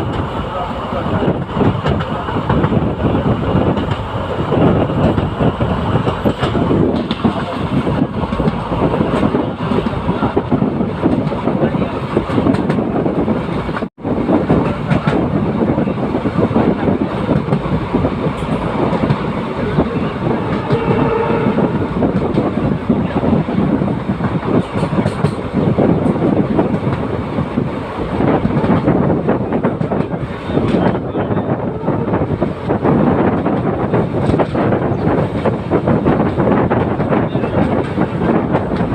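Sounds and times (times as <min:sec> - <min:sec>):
train rumble and rattle: 0:00.0 - 0:38.9.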